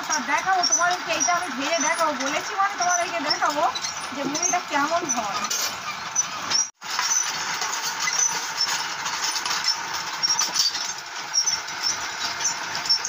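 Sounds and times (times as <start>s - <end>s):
stirring machine mechanical rush: 0.0s - 13.0s.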